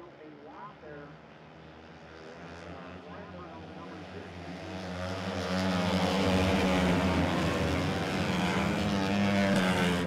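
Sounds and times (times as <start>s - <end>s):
racing motorcycles at full throttle: 1.4s - 10.0s.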